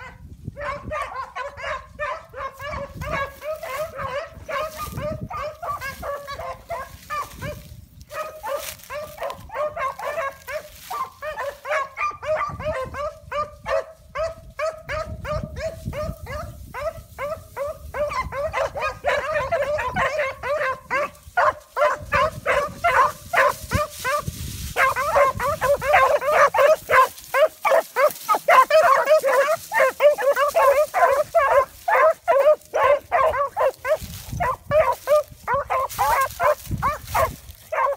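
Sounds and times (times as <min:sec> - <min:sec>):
dog baying with yelping barks: 0:00.0 - 0:37.9.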